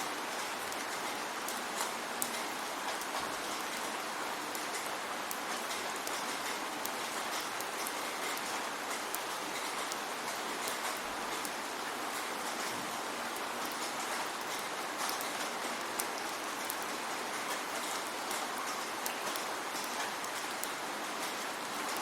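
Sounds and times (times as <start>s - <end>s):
raindrops ticking on a surface: 0.0s - 22.0s
steady rain falling: 0.0s - 22.0s.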